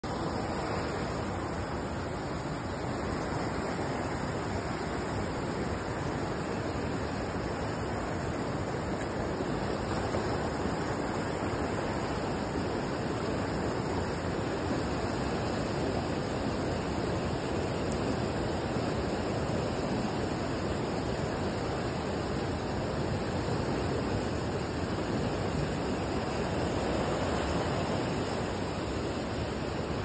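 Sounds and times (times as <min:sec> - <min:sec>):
heavy rain on water: 0:00.0 - 0:30.0.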